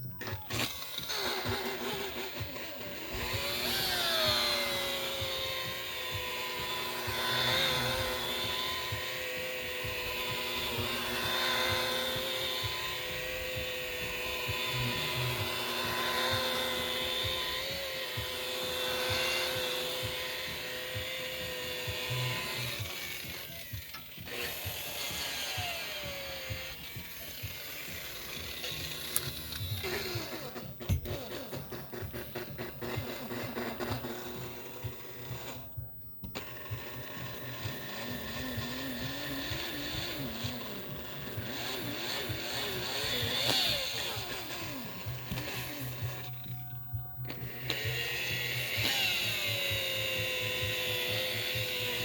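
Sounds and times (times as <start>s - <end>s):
electric polisher motor whine: 0.0s - 52.0s.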